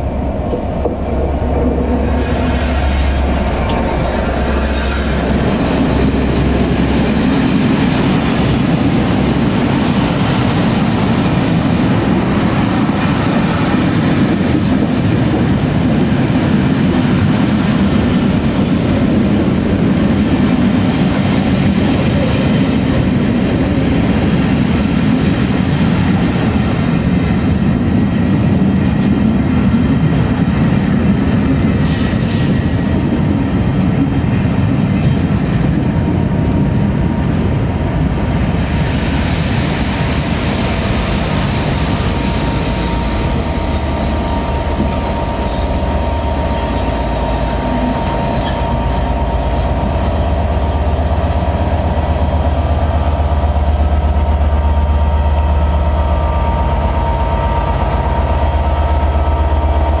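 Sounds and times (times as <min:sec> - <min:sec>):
diesel locomotive engine drone: 0:00.0 - 1:00.0
train coaches rolling on rails: 0:00.0 - 1:00.0.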